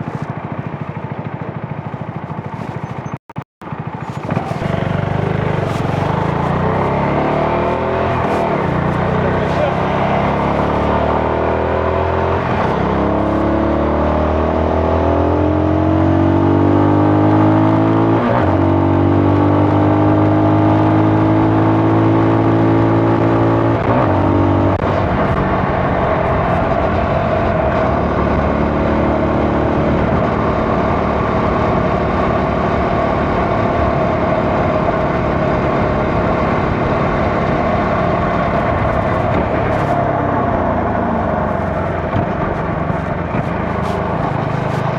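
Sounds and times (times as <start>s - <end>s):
rushing wind: 0.0s - 13.8s, 17.0s - 44.9s
motorcycle engine accelerating: 0.0s - 44.9s
road noise: 0.0s - 44.9s.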